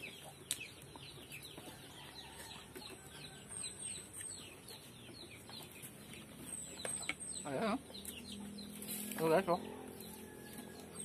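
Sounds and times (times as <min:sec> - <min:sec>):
chickens chirping: 0:00.0 - 0:11.0.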